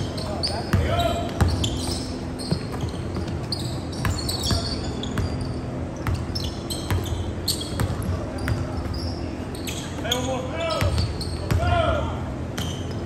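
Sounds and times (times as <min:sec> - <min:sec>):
sneaker squeaks: 0:00.0 - 0:13.0.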